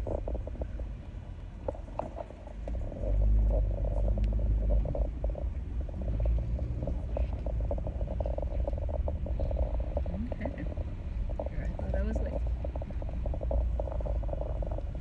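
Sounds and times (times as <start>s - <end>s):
low rumble inside car: 0.0s - 15.0s
steady hum: 0.0s - 15.0s
light ticks: 1.0s - 13.7s.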